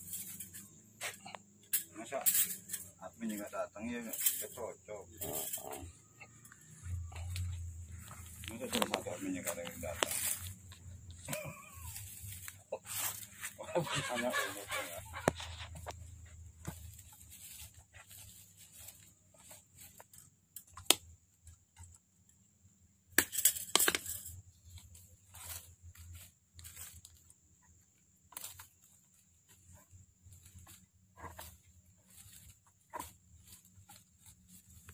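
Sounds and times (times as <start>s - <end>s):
wire scraping on bark: 0.0s - 22.0s, 23.3s - 34.9s.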